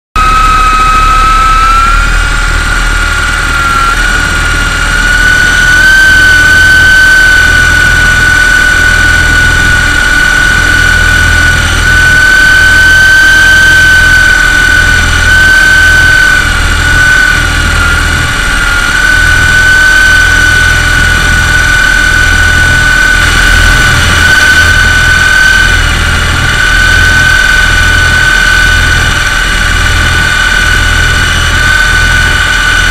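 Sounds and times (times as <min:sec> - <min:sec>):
helicopter rotors whining: 0:00.2 - 0:32.9
low fluctuating rumble: 0:00.2 - 0:32.9.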